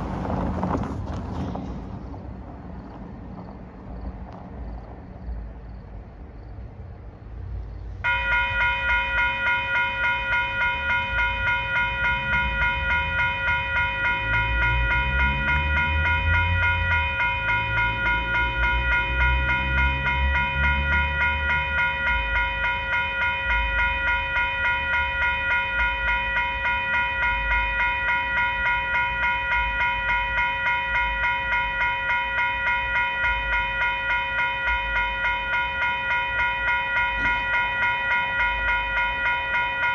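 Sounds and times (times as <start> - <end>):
low train rumble: 0.0 - 39.9.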